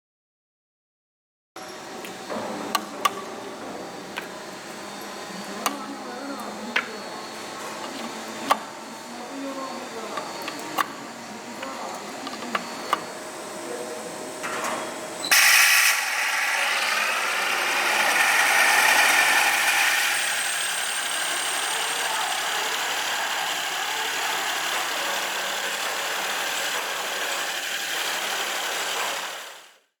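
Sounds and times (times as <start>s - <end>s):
low machine noise: 1.6s - 29.7s
stone polishing machine grinding hiss: 5.6s - 29.7s.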